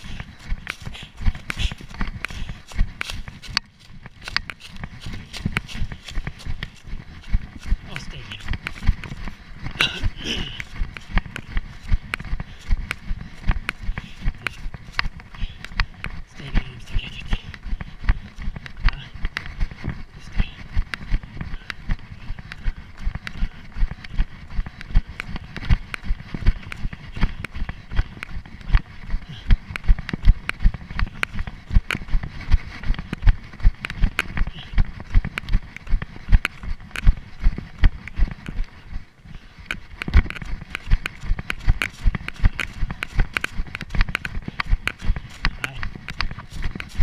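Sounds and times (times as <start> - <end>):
running footsteps on dry leaves: 0.0 - 47.0.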